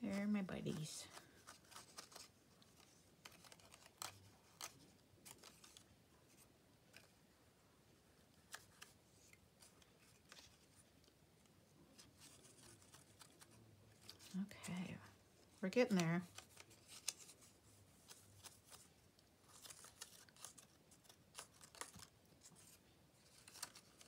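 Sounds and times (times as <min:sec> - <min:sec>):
paper and tool clicks and rustles: 0:00.2 - 0:07.2, 0:08.1 - 0:14.8, 0:15.4 - 0:24.0.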